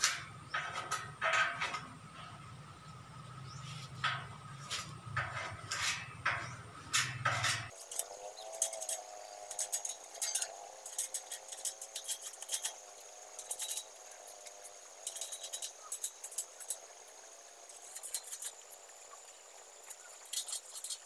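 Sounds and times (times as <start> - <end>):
putty spreader scraping on steel: 0.0 - 2.5, 3.5 - 21.0.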